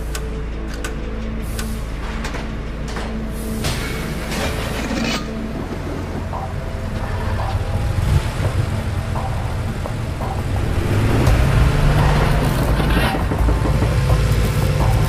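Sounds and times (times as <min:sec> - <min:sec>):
car engine deep rumble: 0:00.0 - 0:15.0.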